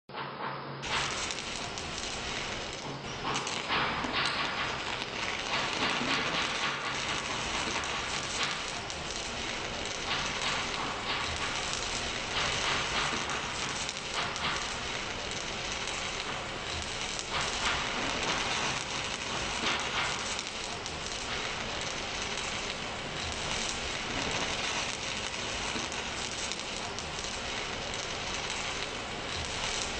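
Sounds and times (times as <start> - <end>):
welding arc crackling: 0.8 - 29.9.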